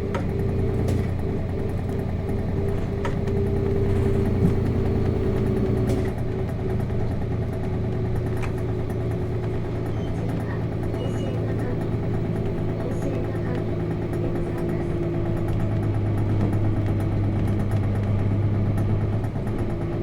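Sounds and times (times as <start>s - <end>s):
bus diesel engine hum: 0.0s - 20.0s
faint clicks and rattles: 0.1s - 19.8s.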